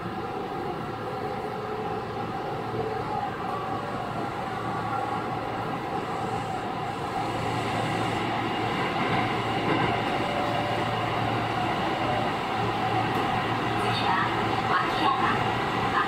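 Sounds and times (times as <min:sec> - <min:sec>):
rail and wheel noise: 0:00.0 - 0:16.0.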